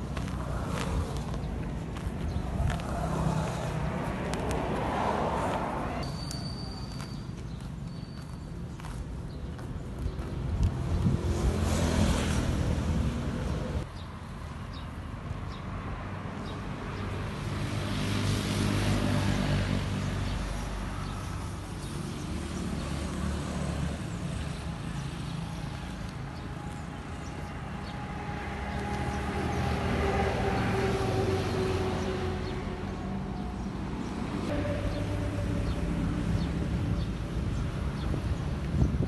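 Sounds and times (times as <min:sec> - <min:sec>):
passing vehicle engines: 0:00.0 - 0:39.0.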